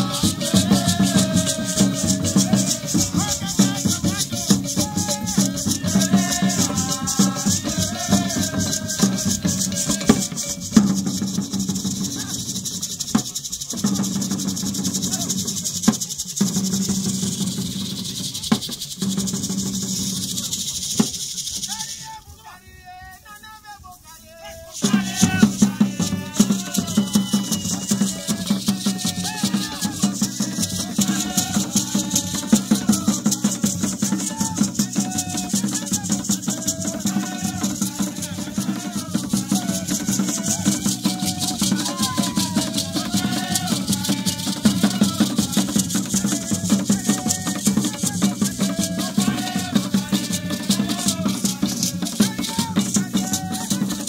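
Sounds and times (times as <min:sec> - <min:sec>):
hand drums playing: 0:00.0 - 0:21.8, 0:24.8 - 0:54.0
shakers rattling: 0:00.0 - 0:54.0.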